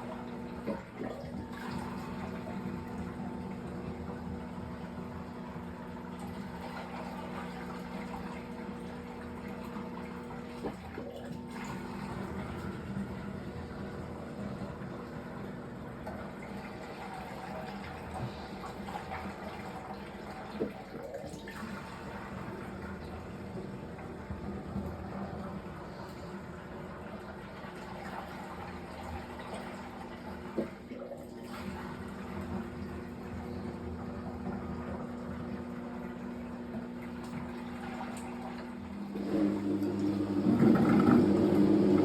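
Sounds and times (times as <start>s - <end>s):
water rushing into drum: 0.0s - 42.0s.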